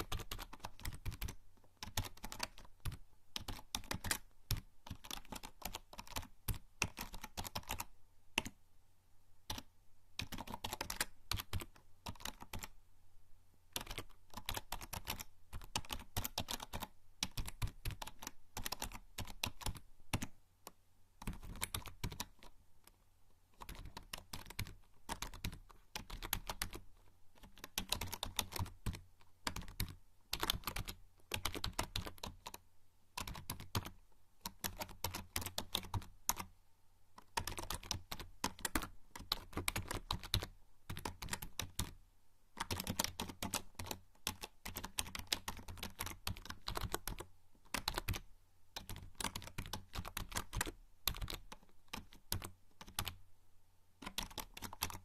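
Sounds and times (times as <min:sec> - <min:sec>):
typing on computer keyboard: 0:00.0 - 0:08.6, 0:09.5 - 0:12.8, 0:13.7 - 0:22.6, 0:23.6 - 0:26.8, 0:27.4 - 0:32.6, 0:33.2 - 0:36.5, 0:37.2 - 0:42.0, 0:42.6 - 0:53.2, 0:54.0 - 0:55.0.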